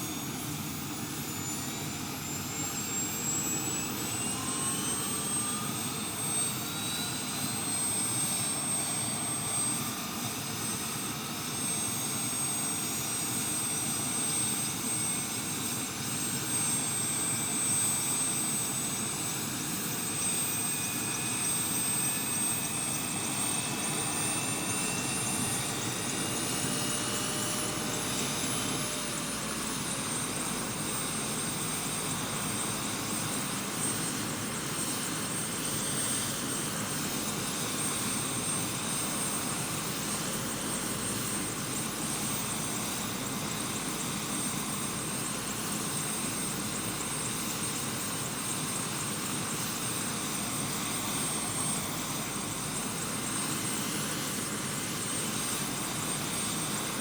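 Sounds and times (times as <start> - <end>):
helicopter running: 0.0 - 57.0.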